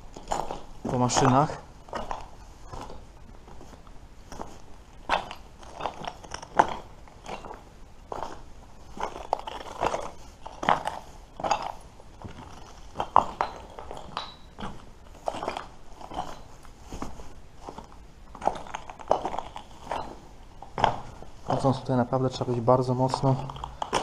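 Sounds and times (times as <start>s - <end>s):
footsteps walking slowly: 0.0s - 24.0s.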